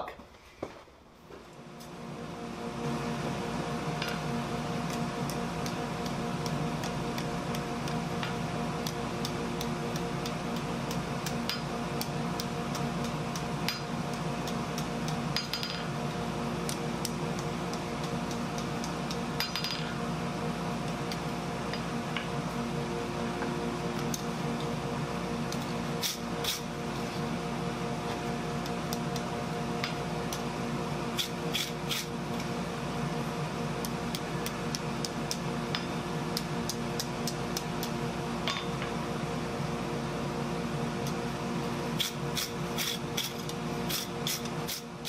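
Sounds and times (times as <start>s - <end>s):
steady multi-tone hum: 0.0s - 45.0s.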